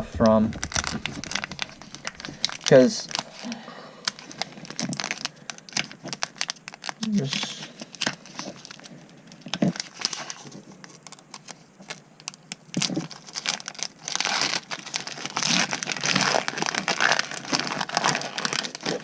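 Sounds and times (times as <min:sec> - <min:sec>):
foil wrapper crinkling: 0:00.1 - 0:19.0.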